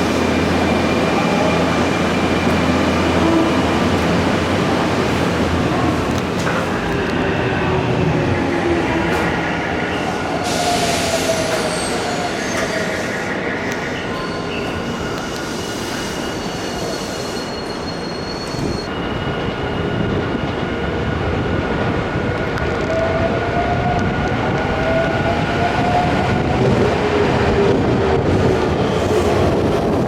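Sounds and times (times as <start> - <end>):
train wheel and running noise: 0.0 - 30.0.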